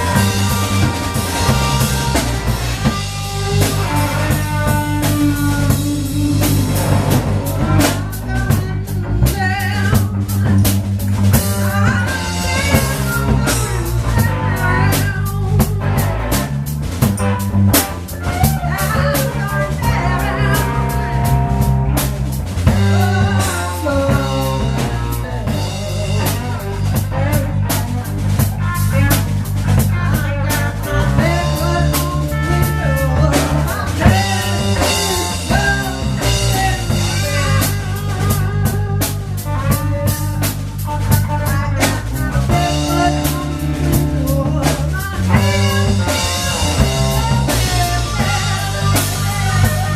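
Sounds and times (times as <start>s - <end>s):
bass line: 0.0s - 49.9s
bending lead guitar melody: 0.0s - 49.9s
drum kit beat: 0.0s - 49.9s.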